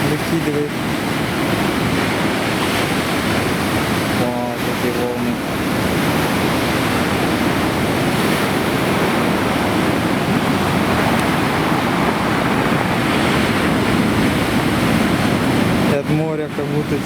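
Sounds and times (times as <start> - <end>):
heavy waves breaking: 0.0 - 17.0.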